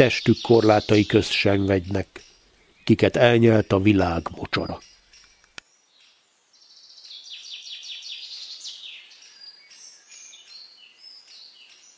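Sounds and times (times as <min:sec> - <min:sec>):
songbirds singing trills: 0:00.0 - 0:11.9.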